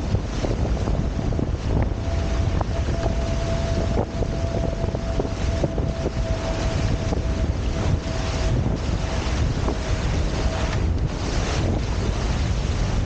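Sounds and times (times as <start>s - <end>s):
thin steady hum: 0.0s - 11.0s
water rushing past hulls: 0.0s - 13.0s
wind buffeting microphone: 0.0s - 13.0s.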